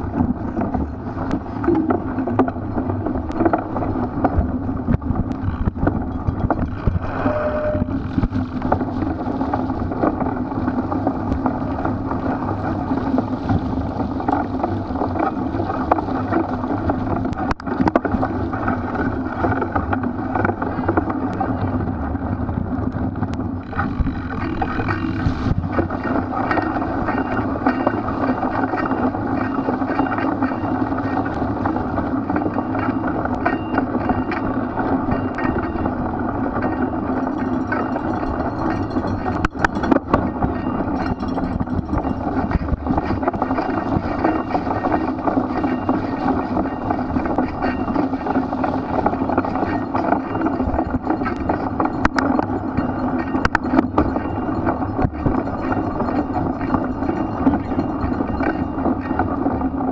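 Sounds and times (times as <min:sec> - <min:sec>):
bike tyres and drivetrain rattling: 0:00.0 - 0:59.9.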